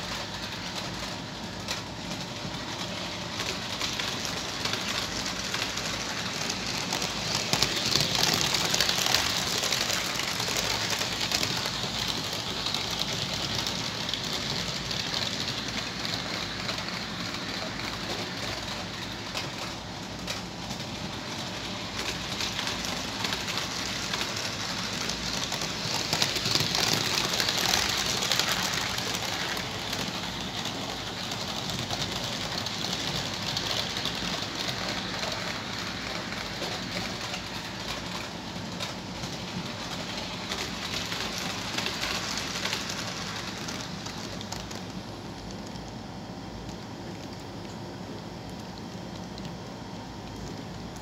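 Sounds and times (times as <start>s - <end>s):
model trains clattering on track: 0.0s - 45.0s.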